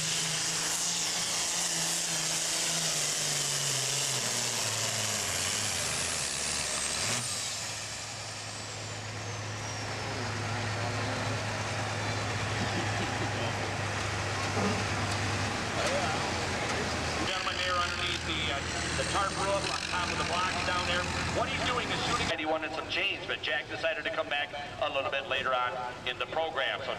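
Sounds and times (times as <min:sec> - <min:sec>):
high turbo whine: 0:00.0 - 0:24.7
tractor diesel engine under load: 0:00.0 - 0:26.9.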